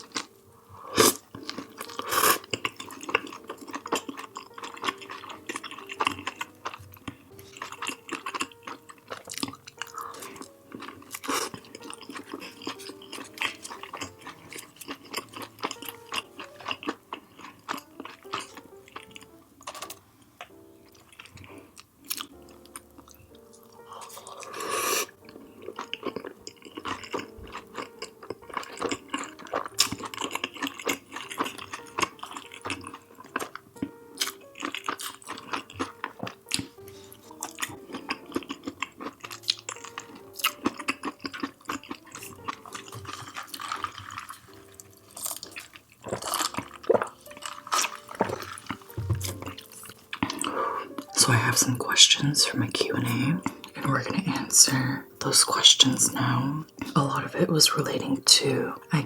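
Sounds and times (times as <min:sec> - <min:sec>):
chewing and wet mouth sounds: 0:00.0 - 0:59.0
quiet background music: 0:00.0 - 0:59.0.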